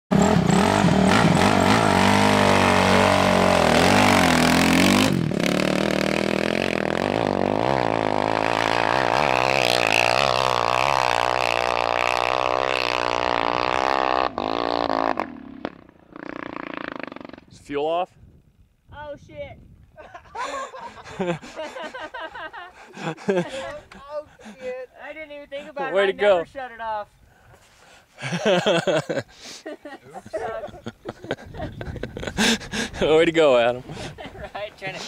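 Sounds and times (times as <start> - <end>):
dirt bike engines revving: 0.1 - 17.8, 20.4 - 26.1, 28.2 - 29.4, 30.1 - 35.0.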